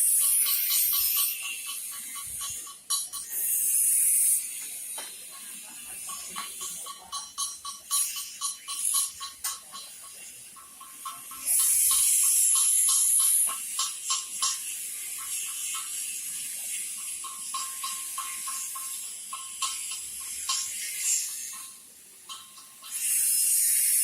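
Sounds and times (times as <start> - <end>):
arc welding crackling: 0.0 - 24.0
high hiss: 0.0 - 24.0.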